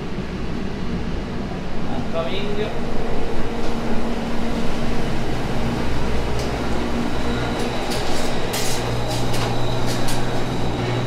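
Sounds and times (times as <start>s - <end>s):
kitchen ventilation rushing: 0.0s - 11.0s.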